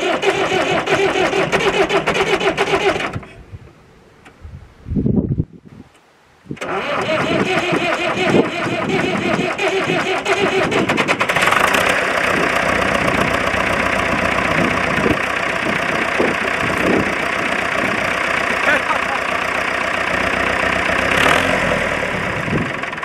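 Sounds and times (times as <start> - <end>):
diesel engine knocking clatter: 0.0 - 3.2, 6.8 - 23.0
tractor diesel engine cranking: 0.0 - 3.4, 6.6 - 23.0.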